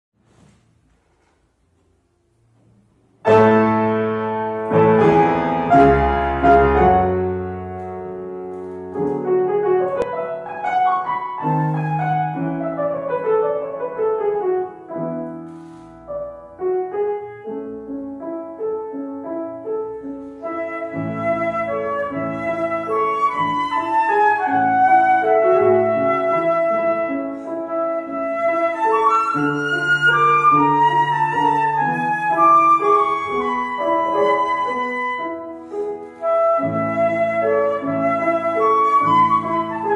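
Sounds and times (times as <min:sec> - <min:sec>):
grand piano playing: 0:01.6 - 0:39.9.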